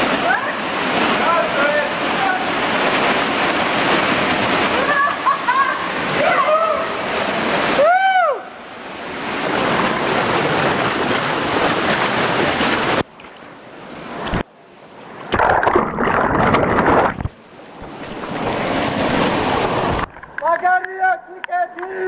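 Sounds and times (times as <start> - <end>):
whitewater rushing: 0.0 - 13.1, 15.1 - 20.6
water splashing: 0.0 - 20.7.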